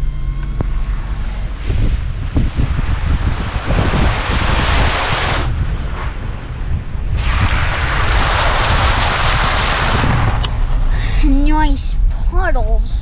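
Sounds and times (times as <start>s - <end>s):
truck engine rumble: 0.0s - 13.0s
wind rushing over microphone: 0.4s - 12.2s.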